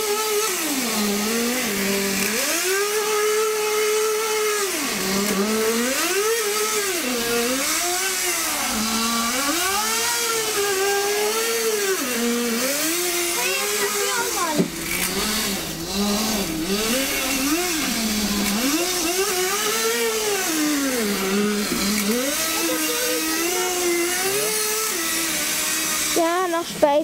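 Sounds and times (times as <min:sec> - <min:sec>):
model engine revving: 0:00.0 - 0:27.0.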